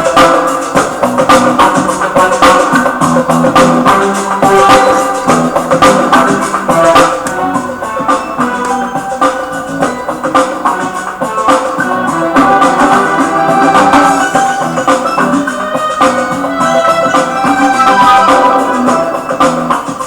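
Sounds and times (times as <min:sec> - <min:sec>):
steady drum pattern: 0:00.0 - 0:20.0
synthesizer music: 0:00.0 - 0:20.0.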